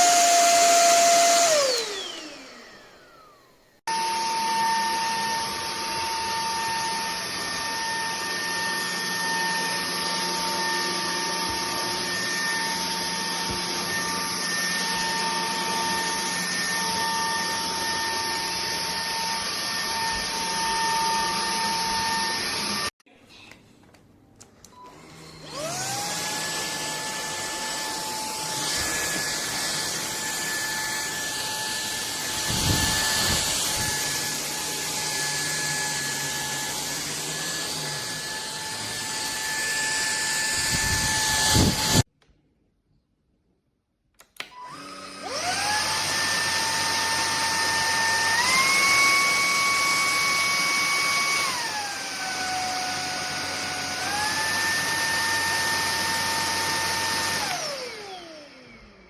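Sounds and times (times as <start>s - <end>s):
vacuum motor whining: 0.0s - 22.9s, 24.7s - 42.1s, 44.4s - 59.0s.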